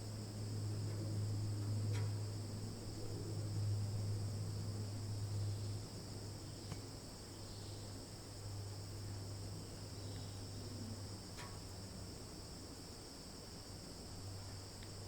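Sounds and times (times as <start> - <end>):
insects chirping: 0.0 - 15.0
low steady hum: 0.0 - 15.0.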